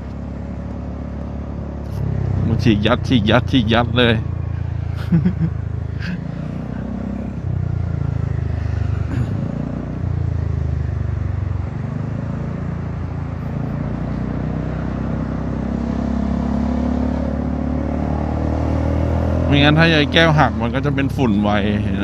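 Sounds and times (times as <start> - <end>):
scooter engine accelerating: 0.0 - 20.6.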